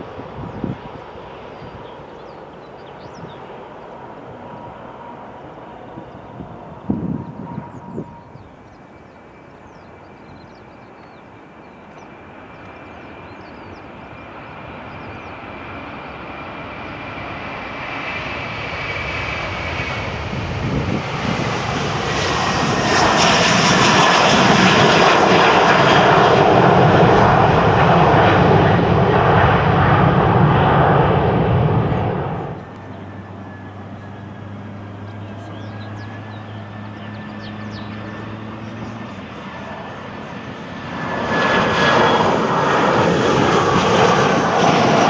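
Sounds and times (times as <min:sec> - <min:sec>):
jet airliner taking off: 0:00.0 - 0:45.0.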